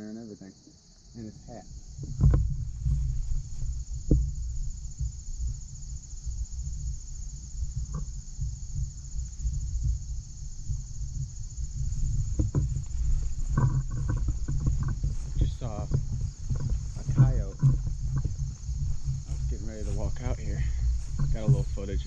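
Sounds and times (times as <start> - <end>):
insects chirring: 0.0 - 22.0
wind buffeting microphone: 1.2 - 22.0
faint knocks: 1.9 - 5.4, 7.6 - 22.0.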